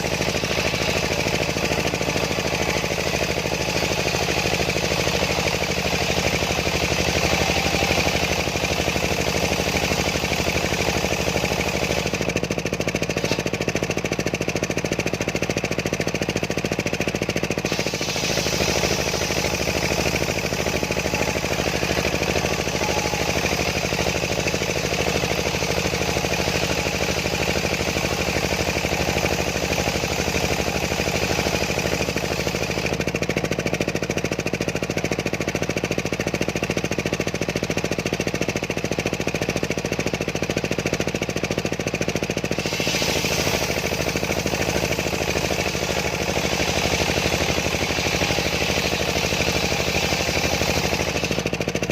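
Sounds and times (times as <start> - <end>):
engine-driven circular saw cutting log: 0.0 - 51.9.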